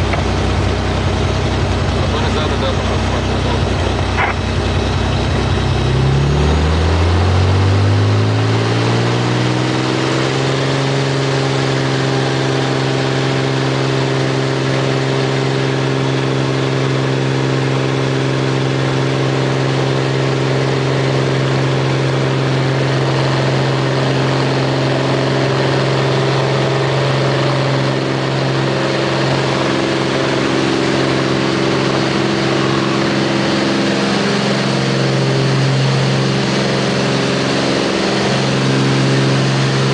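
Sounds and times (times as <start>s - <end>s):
propeller plane engine from cabin: 0.0s - 39.9s.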